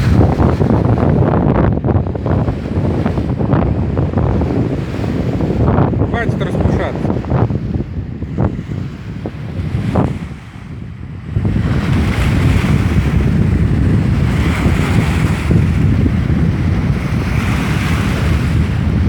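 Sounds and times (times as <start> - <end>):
waves washing on shore: 0.0 - 19.0
wind buffeting microphone: 0.0 - 19.0.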